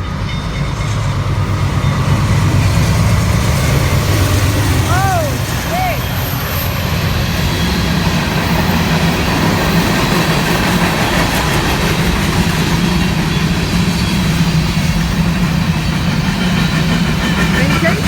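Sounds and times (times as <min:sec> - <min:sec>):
locomotive engine drone: 0:00.0 - 0:18.0
wheels on rails: 0:00.0 - 0:18.0.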